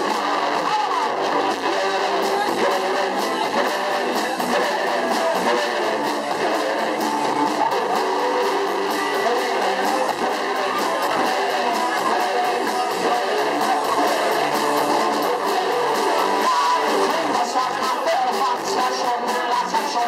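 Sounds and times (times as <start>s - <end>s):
steady drum beat: 0.0s - 19.4s
strummed guitar: 0.0s - 20.0s.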